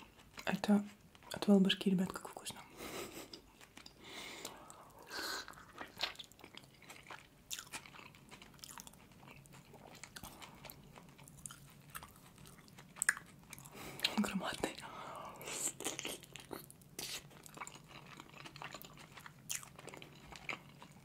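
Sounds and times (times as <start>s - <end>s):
chewing dumpling: 0.0s - 21.0s.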